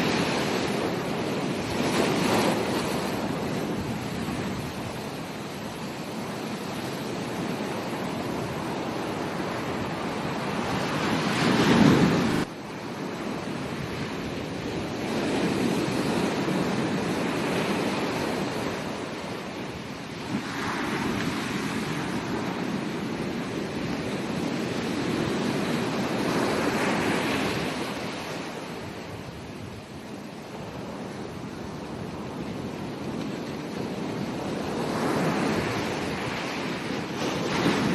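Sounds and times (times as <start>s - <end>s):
ocean waves breaking on beach: 0.0s - 37.9s.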